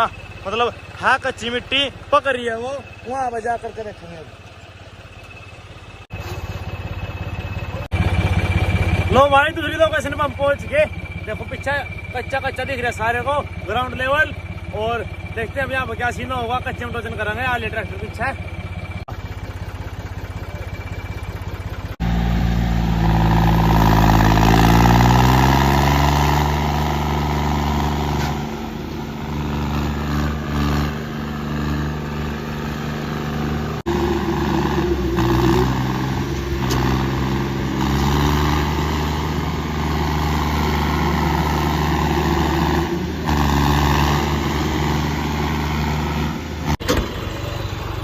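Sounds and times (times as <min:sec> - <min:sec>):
tractor diesel engines under load: 0:00.0 - 0:48.0.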